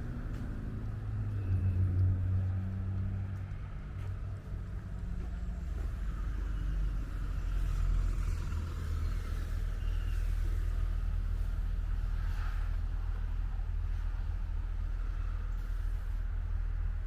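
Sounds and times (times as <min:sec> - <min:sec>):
motor vehicles rumbling: 0:00.0 - 0:17.0.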